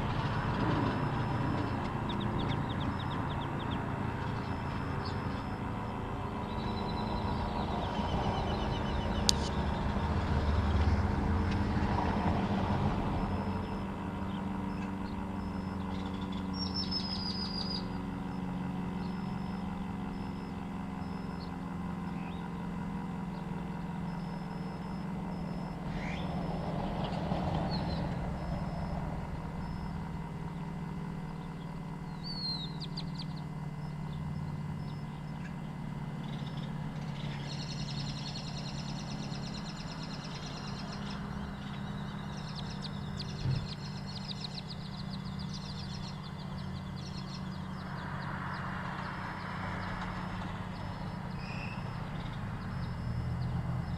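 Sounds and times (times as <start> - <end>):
bird chirps: 0.0 - 53.9
low engine hum: 0.0 - 53.9
vehicles passing: 0.0 - 53.9.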